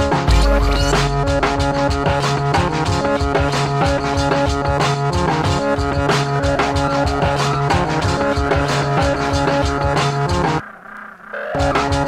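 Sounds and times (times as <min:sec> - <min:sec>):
hip-hop drum beat: 0:00.0 - 0:10.6
looping instrumental notes: 0:00.0 - 0:10.6.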